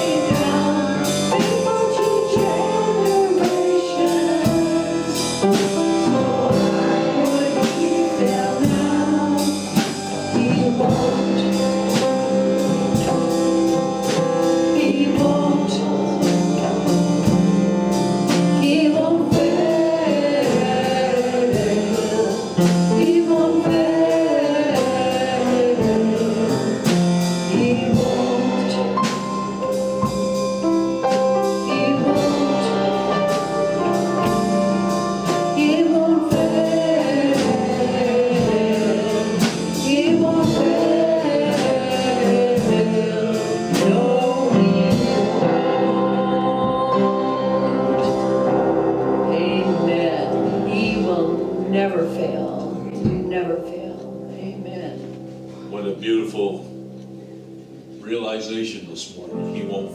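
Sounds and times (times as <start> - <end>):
steady drum beat: 0.0 - 53.8
voices singing worship song: 0.0 - 57.2
band playing: 0.0 - 59.9.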